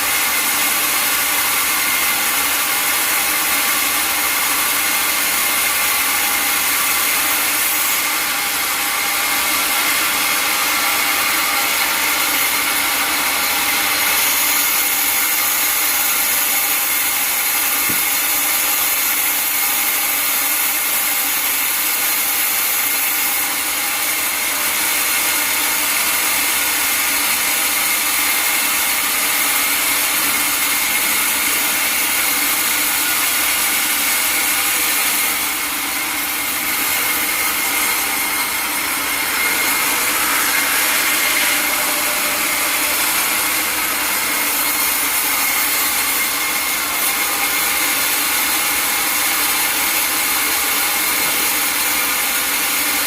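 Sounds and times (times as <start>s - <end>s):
sawmill saw cutting wood: 0.0s - 53.0s.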